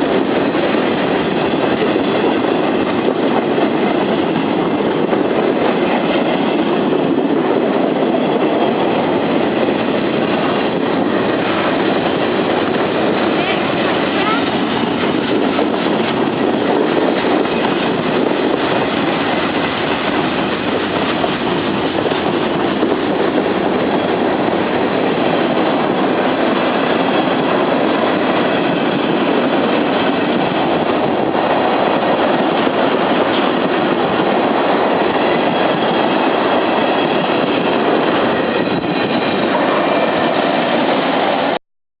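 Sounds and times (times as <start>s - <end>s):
freight train rumbling past: 0.0s - 41.6s.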